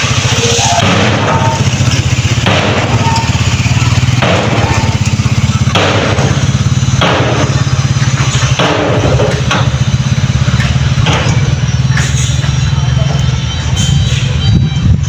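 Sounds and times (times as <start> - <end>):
diesel engine running: 0.0 - 15.0
rushing noise: 0.0 - 15.0.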